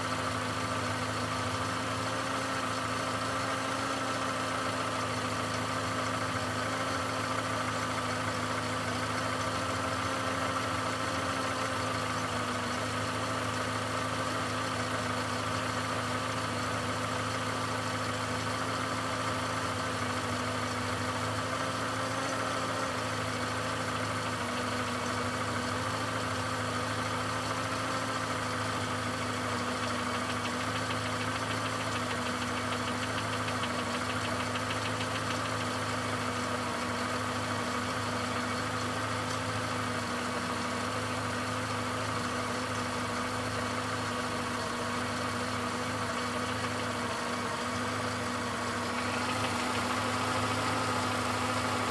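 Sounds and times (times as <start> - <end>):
car engine idling with knock: 0.0 - 51.9.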